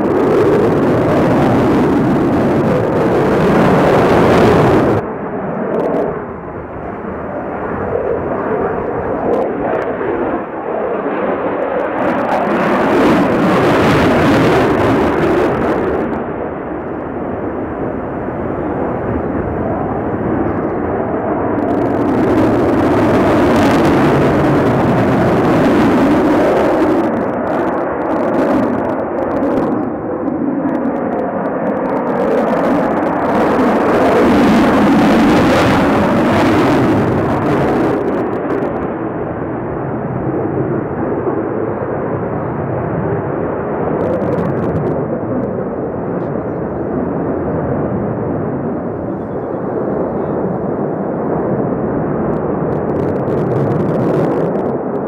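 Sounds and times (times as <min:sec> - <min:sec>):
jet flying overhead: 0:00.0 - 0:55.0.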